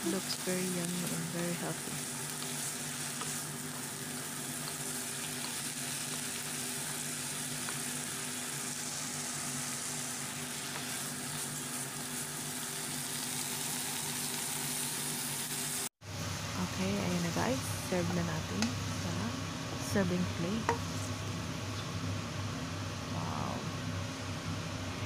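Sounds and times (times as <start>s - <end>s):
food sizzling in a wok: 0.0s - 24.4s.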